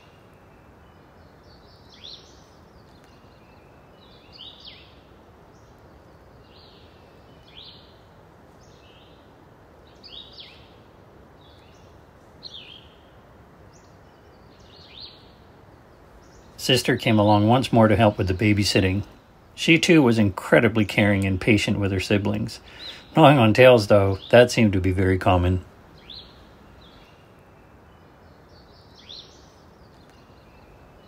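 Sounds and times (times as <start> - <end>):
open-air ambience hiss: 0.0 - 31.0
small birds chirping: 0.0 - 31.0.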